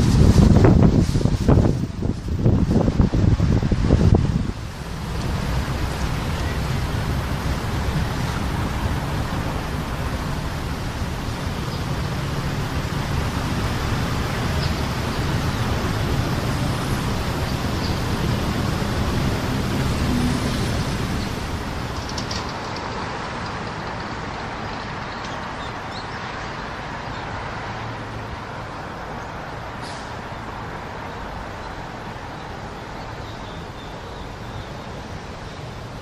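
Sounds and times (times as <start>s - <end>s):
city traffic engine hum: 0.0s - 36.0s.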